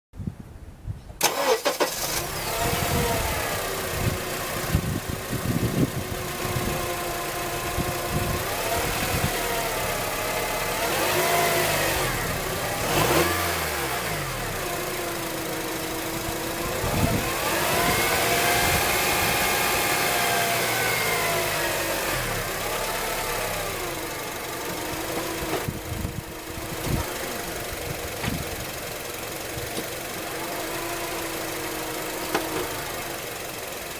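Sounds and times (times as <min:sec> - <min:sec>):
engine and road noise: 0:01.1 - 0:33.9.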